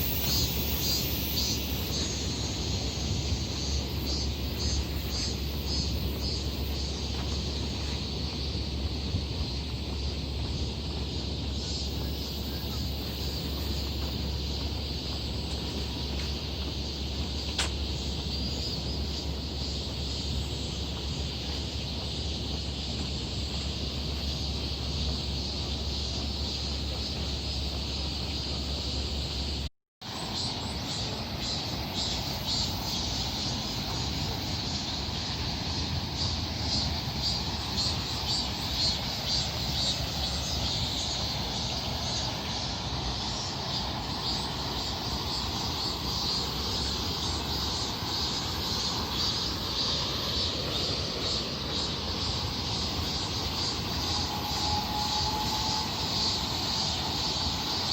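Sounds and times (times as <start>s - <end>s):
cicadas buzzing: 0.0s - 57.9s
low outdoor rumble: 0.0s - 57.9s.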